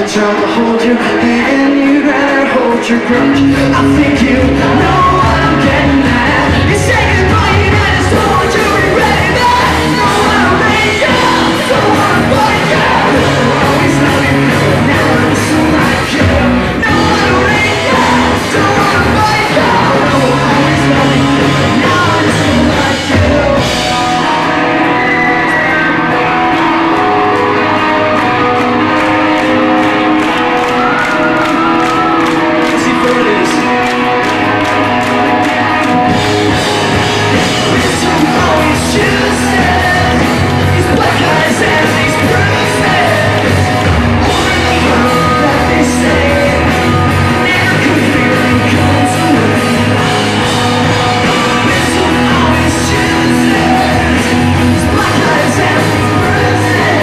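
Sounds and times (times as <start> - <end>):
bass guitar: 0.0 - 57.0
drums: 0.0 - 57.0
electric guitar: 0.0 - 57.0
person singing: 0.0 - 57.0.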